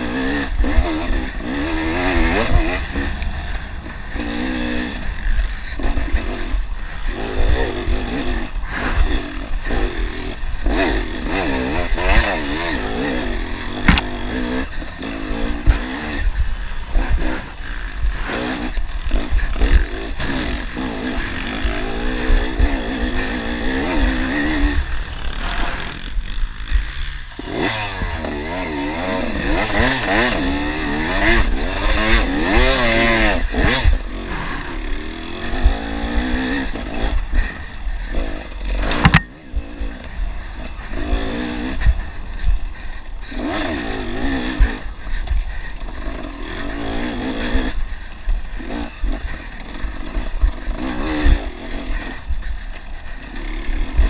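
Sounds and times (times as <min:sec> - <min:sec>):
bike rattling: 0:00.0 - 0:54.0
dirt bike engine revving: 0:00.0 - 0:54.0.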